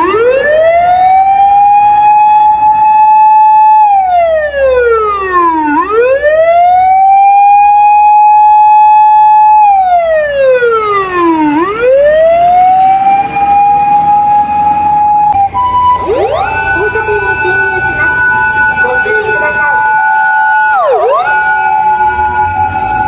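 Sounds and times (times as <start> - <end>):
emergency vehicle siren wailing: 0.0 - 23.0.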